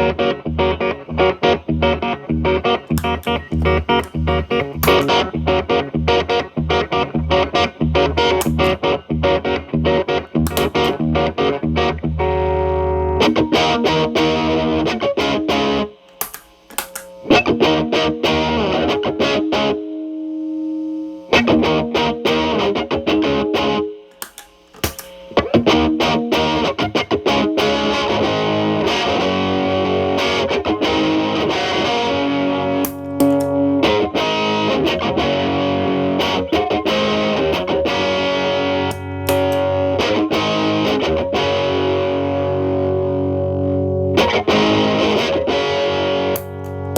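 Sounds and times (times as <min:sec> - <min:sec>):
distorted electric guitar: 0:00.0 - 0:46.9.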